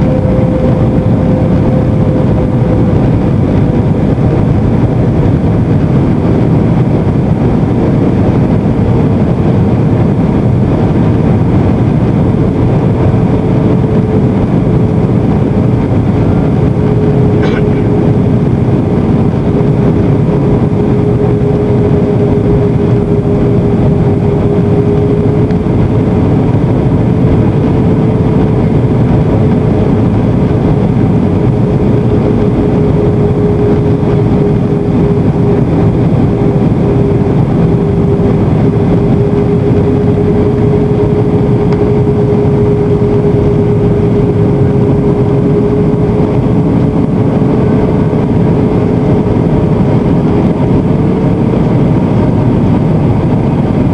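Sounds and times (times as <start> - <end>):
jet engines rumbling: 0.0 - 53.9
rushing air: 0.0 - 53.9
steady droning tone: 0.0 - 53.9.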